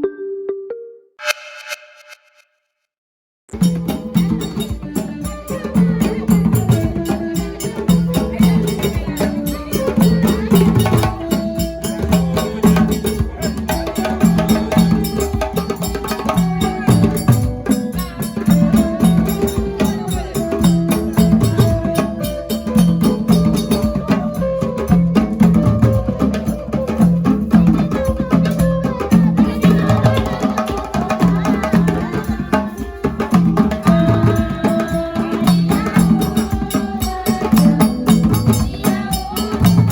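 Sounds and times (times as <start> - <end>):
folk music with drumming: 3.5 - 39.9.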